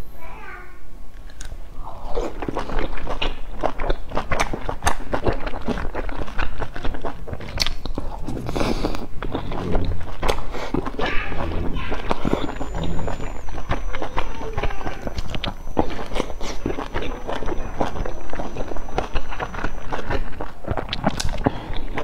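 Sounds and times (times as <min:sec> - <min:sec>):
close chewing and mouth sounds: 0:01.2 - 0:22.0.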